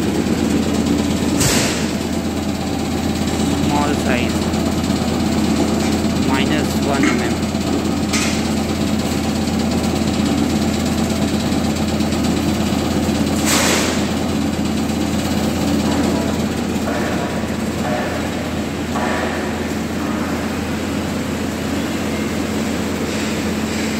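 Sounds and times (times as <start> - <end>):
vibrating grader hum: 0.0 - 23.9.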